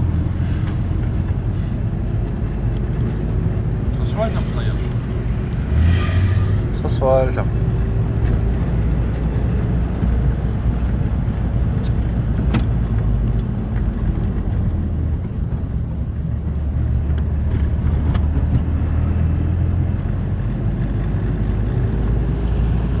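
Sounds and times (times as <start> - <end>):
vehicle engines rumbling: 0.0 - 23.0.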